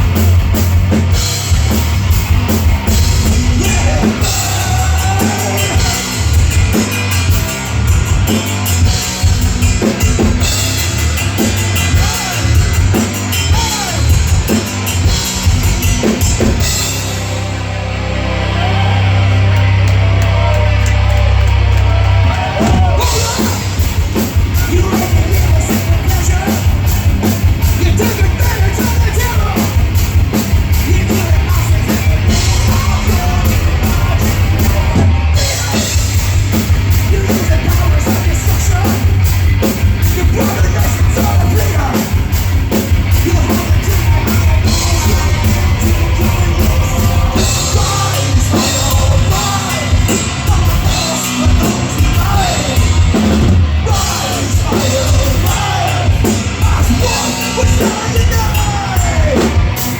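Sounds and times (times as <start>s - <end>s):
fast driving drums: 0.0s - 59.9s
heavy metal band playing live: 0.0s - 59.9s.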